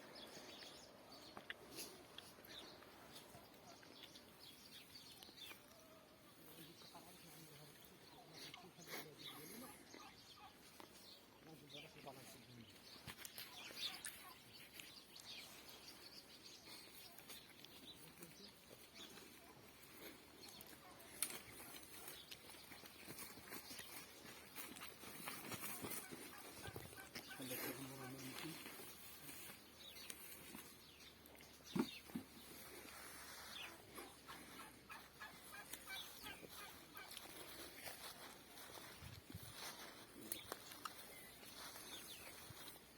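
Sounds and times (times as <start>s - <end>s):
birds calling faintly: 0.0s - 42.9s.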